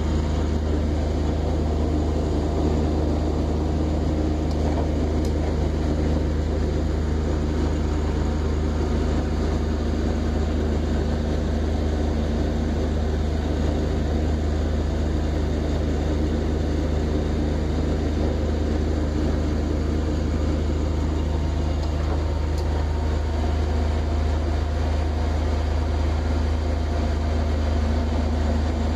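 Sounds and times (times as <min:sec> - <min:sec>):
boat engine drone: 0:00.0 - 0:28.9.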